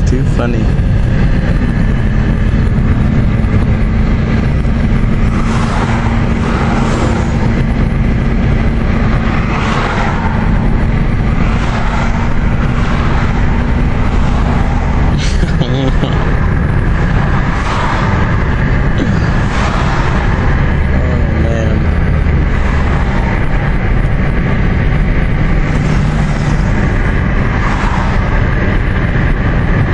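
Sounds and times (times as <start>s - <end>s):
engine and tyre drone: 0.0s - 29.9s
rushing noise: 0.0s - 29.9s.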